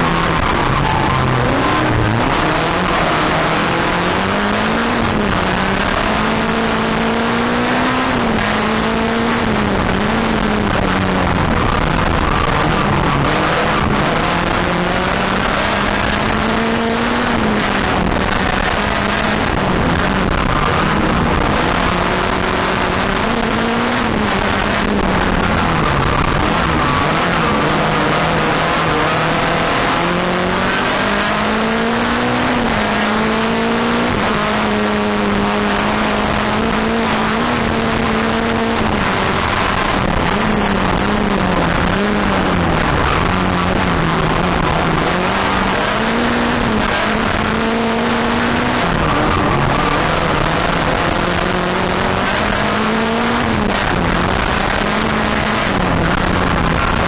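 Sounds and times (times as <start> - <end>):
race car engine from inside: 0.0 - 57.0
tyre and road noise: 0.0 - 57.0.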